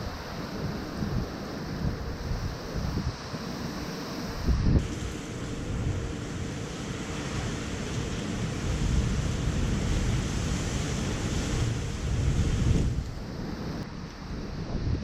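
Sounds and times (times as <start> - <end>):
strong wind gusting: 0.0 - 15.0.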